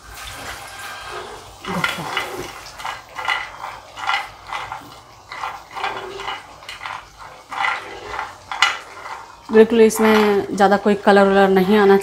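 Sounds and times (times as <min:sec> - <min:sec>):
nuts scraping and rattling in a pan: 0:00.3 - 0:12.0.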